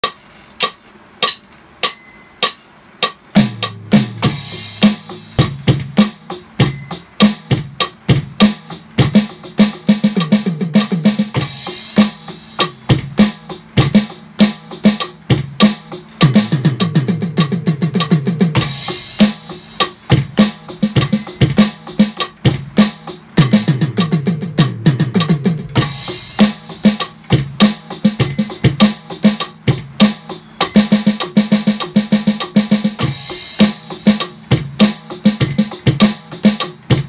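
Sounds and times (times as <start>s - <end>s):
electronic drum kit groove: 0.0s - 37.0s.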